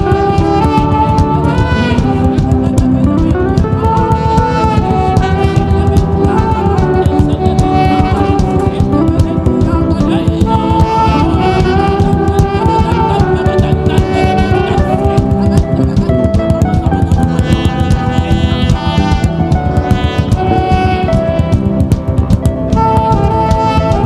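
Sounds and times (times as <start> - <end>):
worship music: 0.0 - 24.0.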